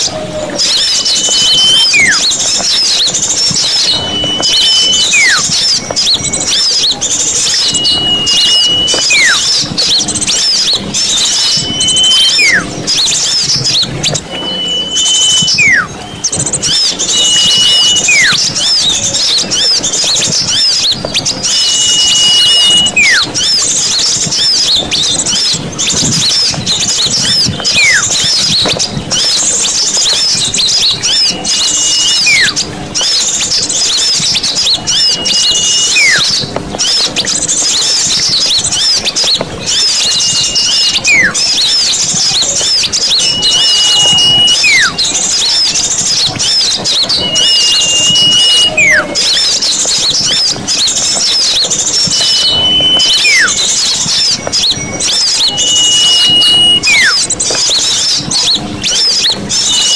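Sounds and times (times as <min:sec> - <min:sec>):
small birds chirping: 0:00.0 - 0:59.9
whistled bird call: 0:00.0 - 0:59.9.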